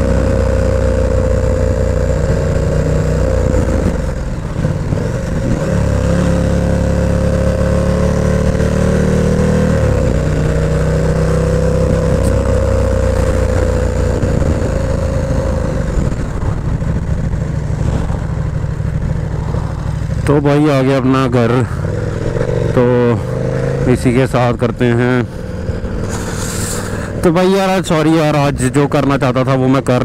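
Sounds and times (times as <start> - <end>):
motorcycle engine riding: 0.0 - 30.0.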